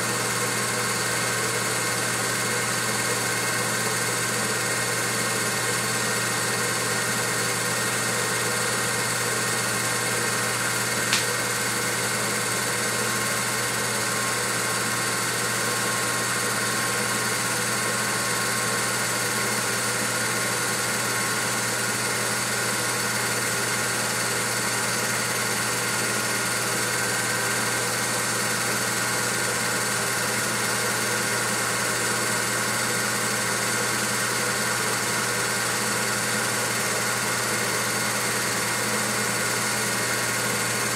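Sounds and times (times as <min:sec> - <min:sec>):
projector motor and fan humming: 0:00.0 - 0:40.9.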